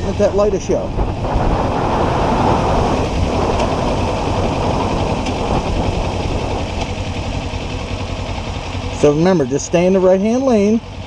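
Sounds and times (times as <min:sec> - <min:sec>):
motorcycle engine rumble: 0:00.0 - 0:11.0
wind and road noise: 0:00.0 - 0:11.0.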